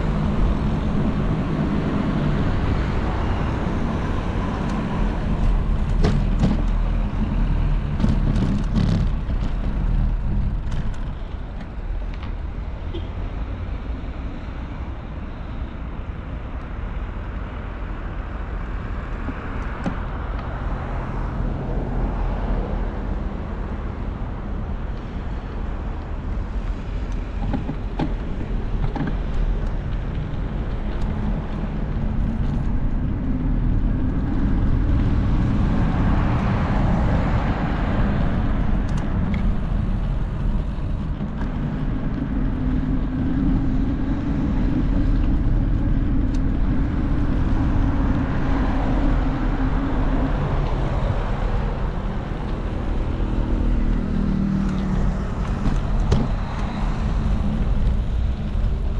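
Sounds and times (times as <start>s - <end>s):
traffic rumble: 0.0s - 58.9s.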